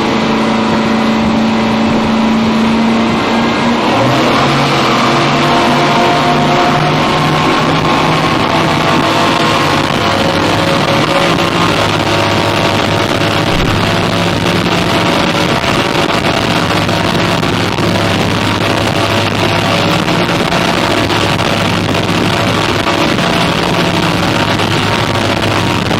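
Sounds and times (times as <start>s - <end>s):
outboard engines droning: 0.0s - 25.9s
water rushing: 0.0s - 25.9s
wind: 0.0s - 25.9s.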